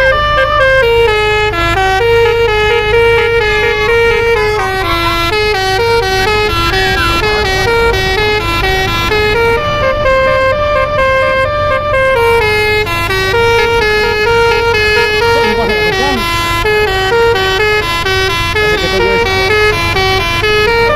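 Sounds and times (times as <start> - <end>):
multi-tone air horn tune: 0.0 - 20.9.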